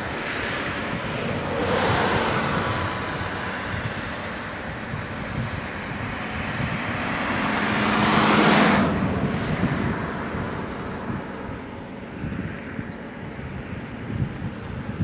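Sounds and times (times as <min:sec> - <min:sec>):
vehicle passing by: 0:00.0 - 0:15.0.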